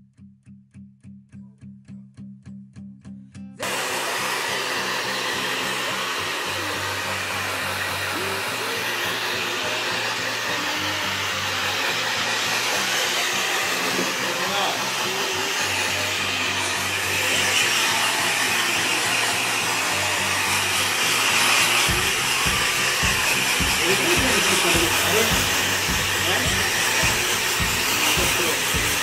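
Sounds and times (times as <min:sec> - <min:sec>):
hair dryer blowing: 0:03.6 - 0:29.0.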